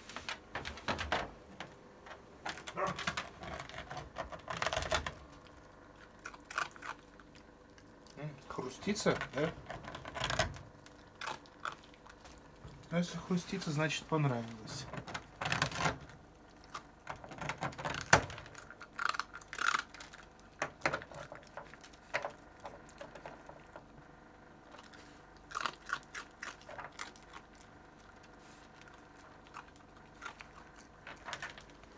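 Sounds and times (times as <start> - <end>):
fox crunching dry rusk: 1.7 - 31.9.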